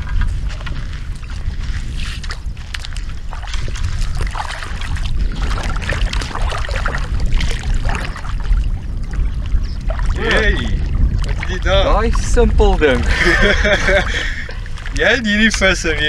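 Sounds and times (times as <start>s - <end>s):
water splashing and trickling: 0.0s - 16.0s
wind rumble on microphone: 0.0s - 16.0s.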